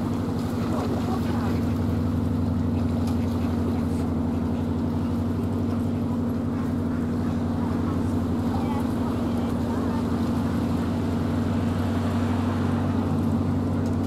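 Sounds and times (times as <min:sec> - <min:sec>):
boat diesel engine running: 0:00.0 - 0:14.0.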